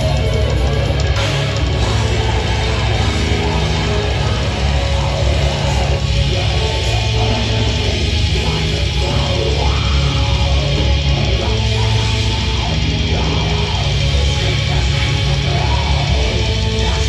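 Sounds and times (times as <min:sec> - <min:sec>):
bass guitar: 0:00.0 - 0:17.0
distorted electric guitar: 0:00.0 - 0:17.0
drum kit: 0:00.0 - 0:17.0
person singing into microphone: 0:01.4 - 0:17.0.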